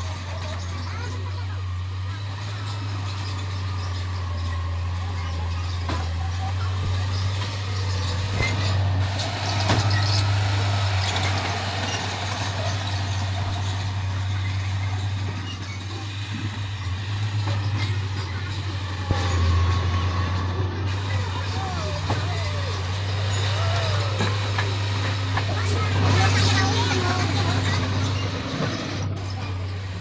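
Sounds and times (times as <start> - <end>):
diesel machinery engine drone: 0.0 - 30.0.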